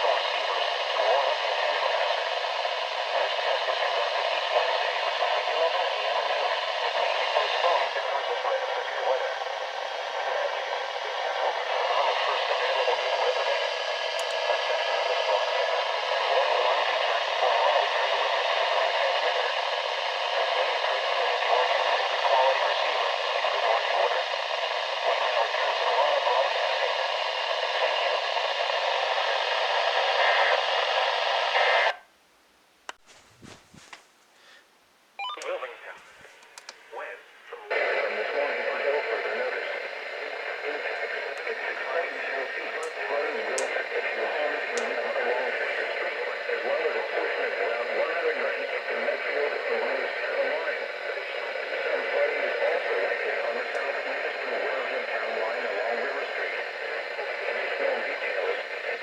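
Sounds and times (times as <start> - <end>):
radio static hiss: 0.0 - 32.1, 32.9 - 59.0.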